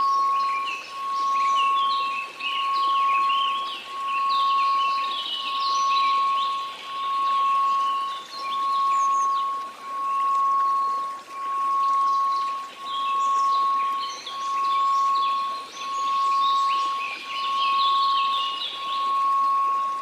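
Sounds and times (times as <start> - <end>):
faint hiss: 0.0 - 20.0
pulsing pure tone: 0.0 - 20.0.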